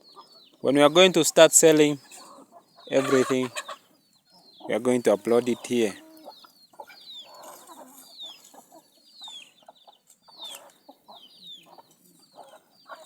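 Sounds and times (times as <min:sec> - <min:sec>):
faint chickens clucking: 0:00.0 - 0:13.0.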